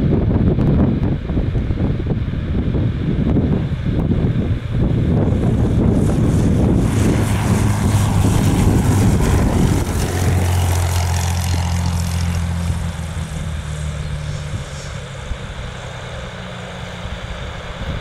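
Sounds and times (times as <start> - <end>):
propeller plane engine hum: 0.0 - 18.0
wind buffeting microphone: 0.0 - 18.0.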